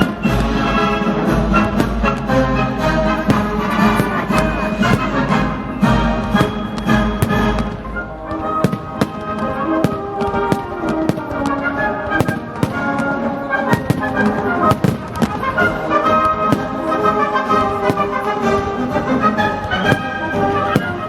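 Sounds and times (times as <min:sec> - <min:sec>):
fireworks bangs: 0:00.0 - 0:21.0
orchestral music with brass: 0:00.0 - 0:21.0.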